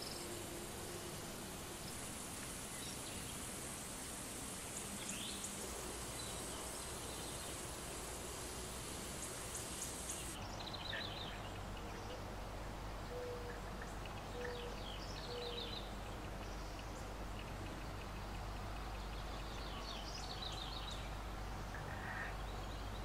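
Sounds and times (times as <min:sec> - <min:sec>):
steady background hiss: 0:00.0 - 0:23.0
small birds chirping: 0:01.8 - 0:23.0.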